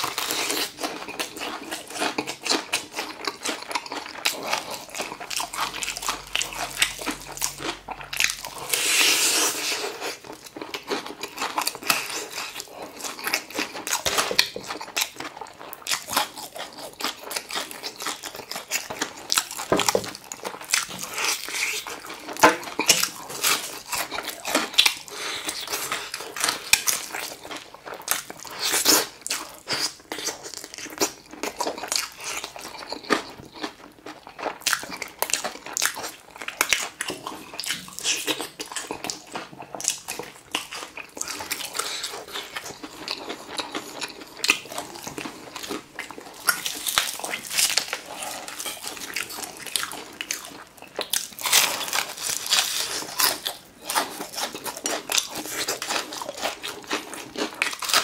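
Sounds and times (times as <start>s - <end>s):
crunching fried chicken: 0.0s - 58.0s.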